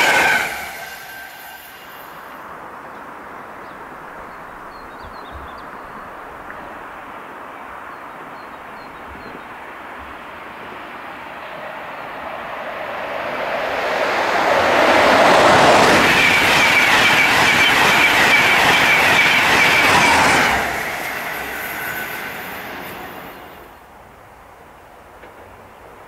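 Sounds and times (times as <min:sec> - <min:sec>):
express train passing: 0:00.0 - 0:04.9, 0:05.9 - 0:24.5.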